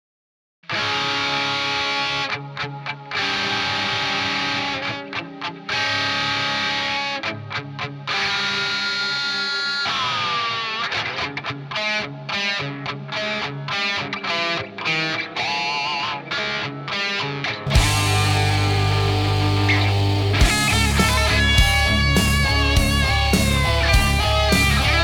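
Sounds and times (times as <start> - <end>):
distorted electric guitar rock: 0.7 - 25.0.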